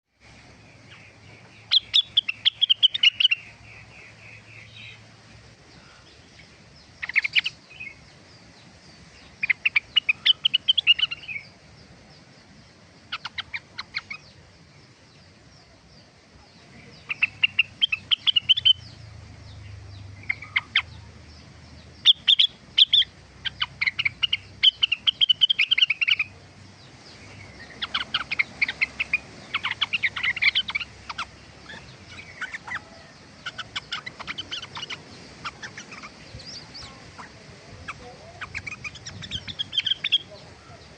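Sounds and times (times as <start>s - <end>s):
songbird chirps and trills: 0.0s - 40.9s.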